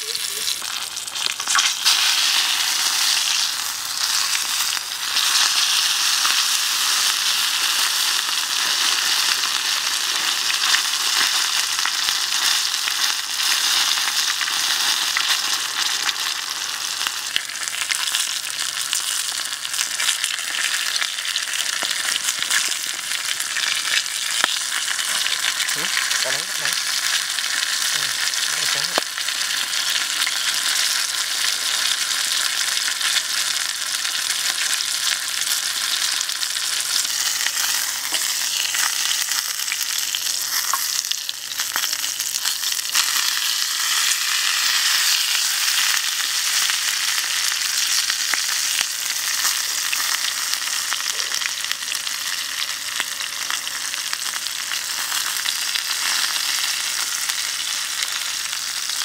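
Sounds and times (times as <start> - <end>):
chicken wings frying with crackling: 0.0 - 59.0.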